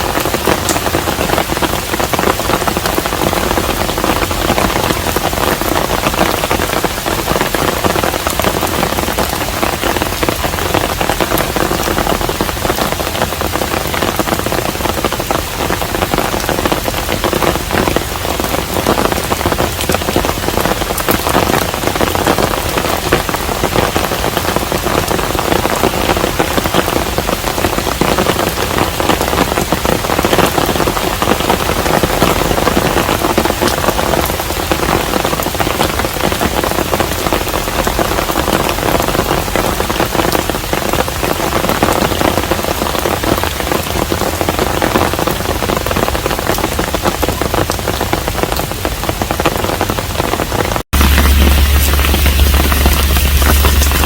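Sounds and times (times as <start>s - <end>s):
rain pattering on a house: 0.0s - 54.0s.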